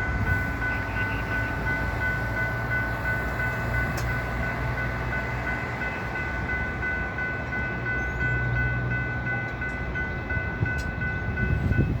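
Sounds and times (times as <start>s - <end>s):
diesel train rumbling: 0.0s - 12.0s.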